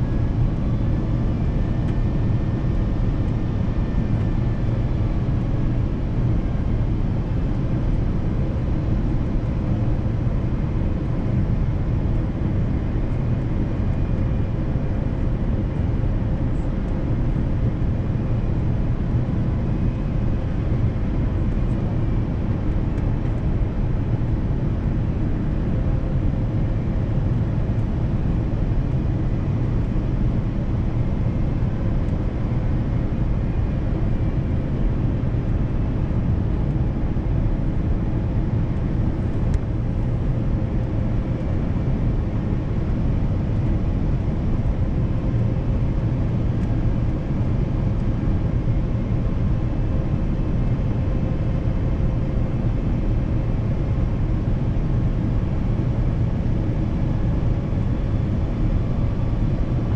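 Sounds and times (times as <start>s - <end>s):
airplane cabin engine rumble: 0.0s - 59.9s
faint steady hum: 0.0s - 59.9s.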